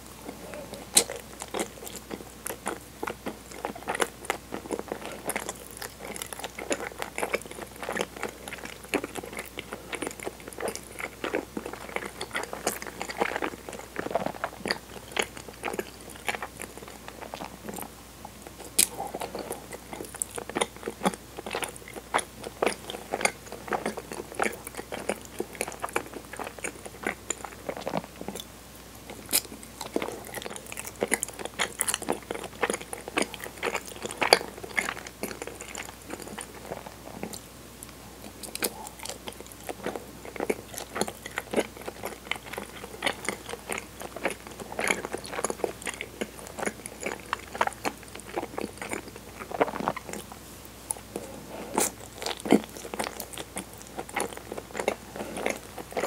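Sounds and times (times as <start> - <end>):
close chewing with wet clicks: 0.1 - 56.0.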